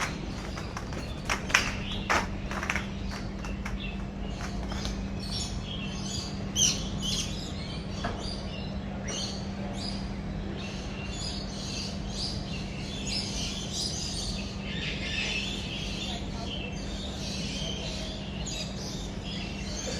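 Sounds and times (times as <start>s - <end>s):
birds chirping: 0.0s - 19.9s
steady low hum: 0.0s - 19.9s.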